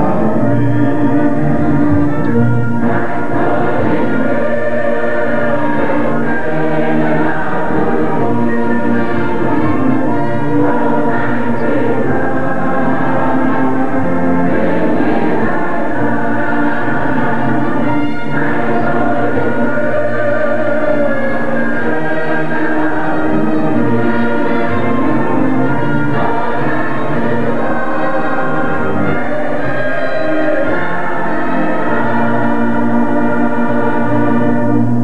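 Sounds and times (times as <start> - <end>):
choir singing a hymn: 0.0 - 35.0
orchestra playing: 0.0 - 35.0.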